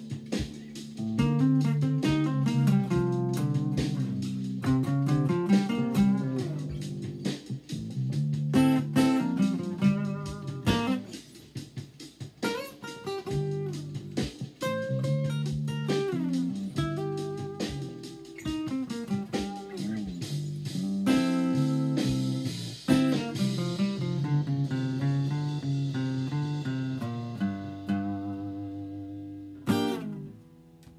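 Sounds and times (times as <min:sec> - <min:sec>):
acoustic guitar blues: 0:00.0 - 0:07.4, 0:08.5 - 0:11.1, 0:12.4 - 0:30.4.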